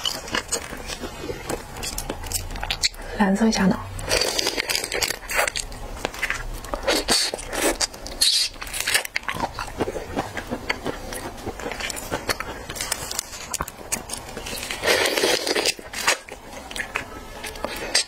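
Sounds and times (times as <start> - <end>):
wet chewing: 0.0 - 3.2, 3.9 - 18.0.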